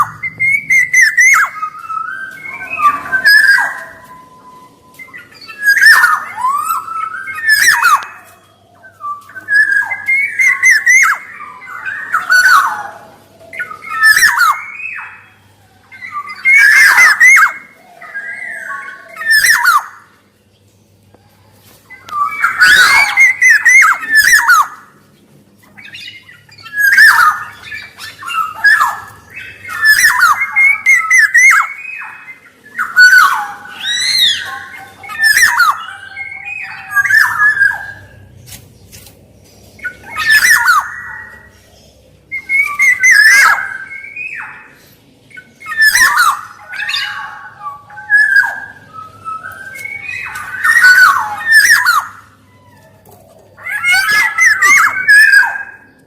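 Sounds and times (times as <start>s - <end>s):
bird calling with whistles and squawks: 0.0s - 20.4s, 21.2s - 56.0s.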